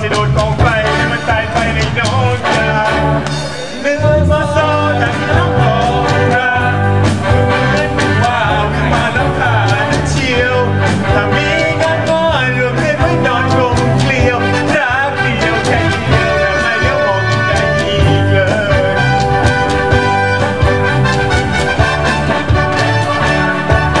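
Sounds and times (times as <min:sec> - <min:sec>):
person singing: 0:00.0 - 0:19.4
bass and drums: 0:00.0 - 0:24.0.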